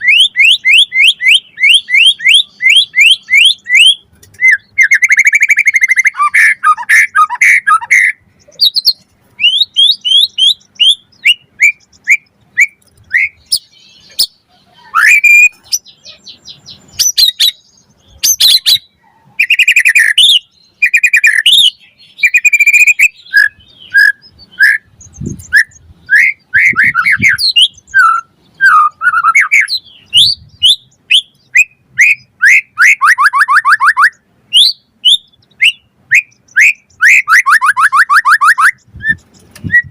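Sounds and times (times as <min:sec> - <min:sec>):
songbird singing whistles and trills: 0:00.0 - 0:39.9.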